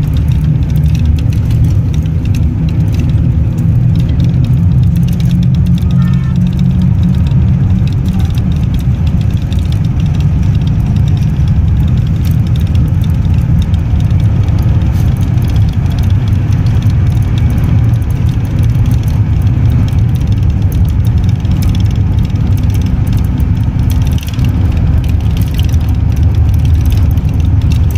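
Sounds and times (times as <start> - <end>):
engine rumble: 0.0 - 27.9
road noise: 0.0 - 27.9.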